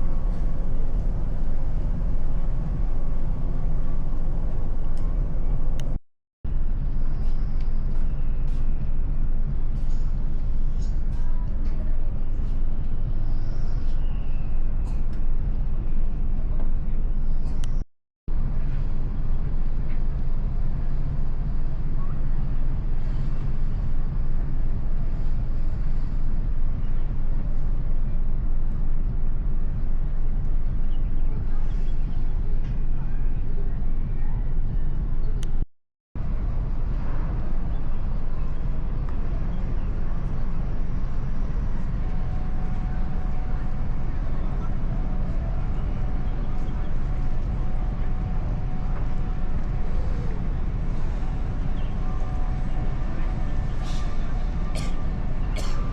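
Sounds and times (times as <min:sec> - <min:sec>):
ship engines low drone: 0:00.0 - 0:35.6, 0:36.2 - 0:55.9.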